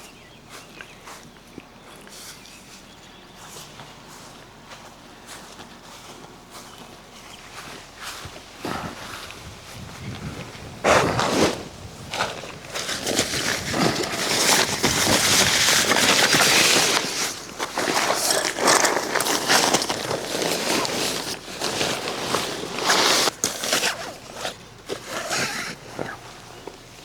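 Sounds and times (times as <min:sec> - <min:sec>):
camping gear rustling and crinkling: 0:00.0 - 0:27.0.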